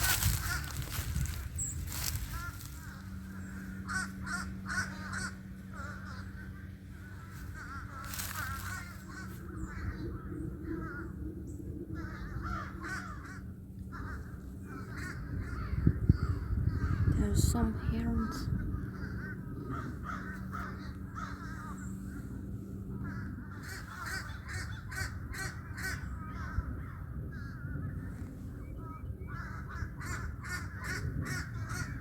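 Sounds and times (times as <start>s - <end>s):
crows cawing: 0.0s - 11.2s, 11.9s - 17.2s, 18.2s - 32.0s
steady low hum: 0.0s - 32.0s.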